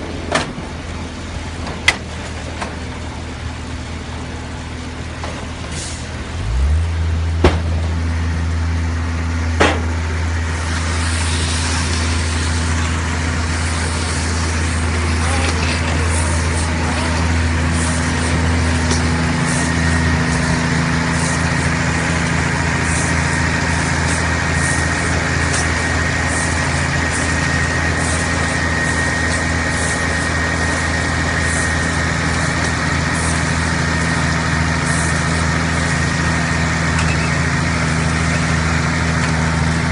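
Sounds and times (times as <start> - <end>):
baler machinery turning: 0.0 - 39.9
tractor engine hum: 0.0 - 39.9.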